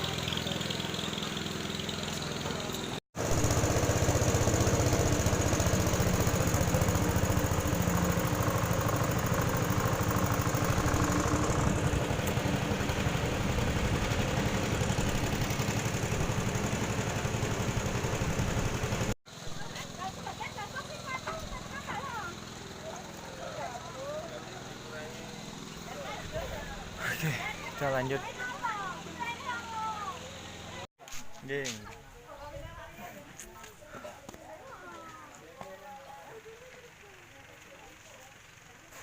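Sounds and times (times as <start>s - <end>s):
vehicle engine running: 0.0s - 30.9s, 35.0s - 39.0s.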